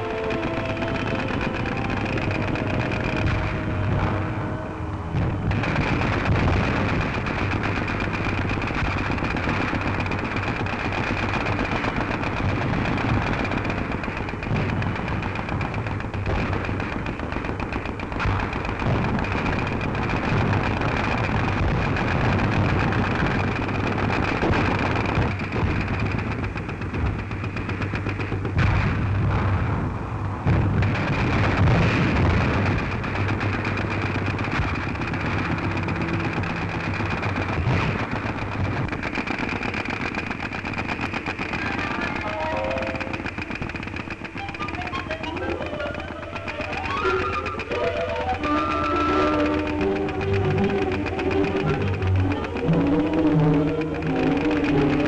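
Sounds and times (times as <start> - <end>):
gunshots: 0.0 - 55.0
heavy blasts: 0.0 - 55.0
rapid machine-gun fire: 0.0 - 55.0
steady hum: 0.0 - 55.0.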